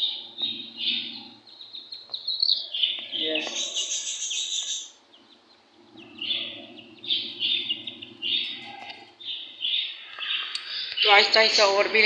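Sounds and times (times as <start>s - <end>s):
budgerigars chattering: 0.0s - 12.0s.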